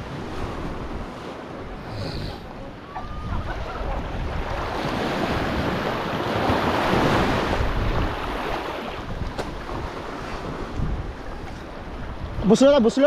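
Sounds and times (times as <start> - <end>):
wind on microphone: 0.0 - 12.8
small waves splashing: 0.0 - 13.0.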